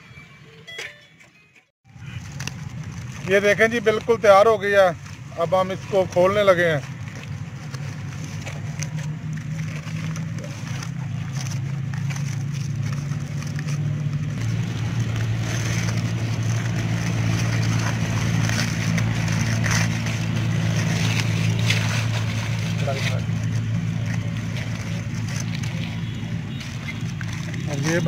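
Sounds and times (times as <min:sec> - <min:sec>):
aluminium foil crackling: 0:01.9 - 0:28.0.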